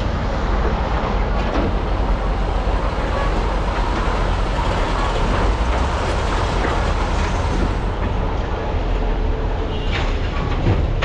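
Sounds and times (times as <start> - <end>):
excavator diesel engines rumbling: 0.0 - 11.0.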